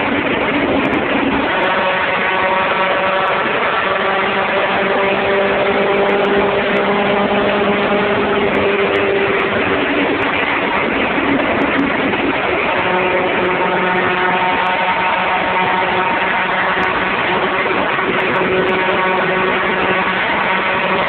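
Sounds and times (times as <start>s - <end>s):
engine at high revs: 0.0s - 21.0s
wind and road noise: 0.0s - 21.0s.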